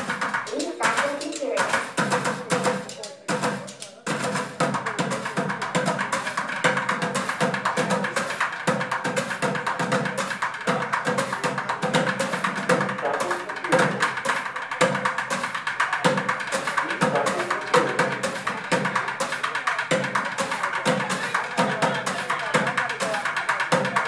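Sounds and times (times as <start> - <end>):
bucket drumming: 0.0 - 24.0
cymbals: 0.0 - 24.0.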